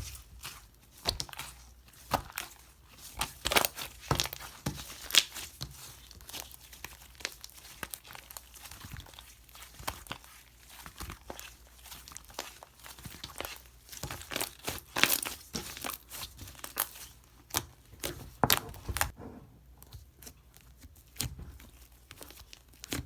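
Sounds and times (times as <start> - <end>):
slime squished by hand: 0.0 - 19.2.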